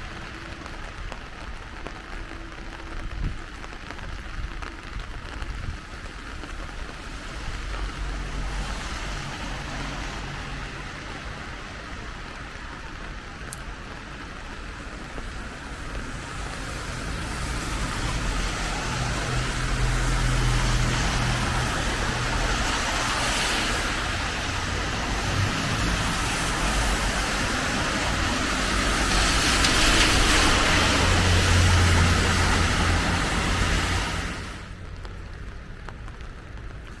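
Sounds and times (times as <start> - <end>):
tyre hiss on wet road: 0.0 - 37.0
engine rumble: 4.6 - 37.0.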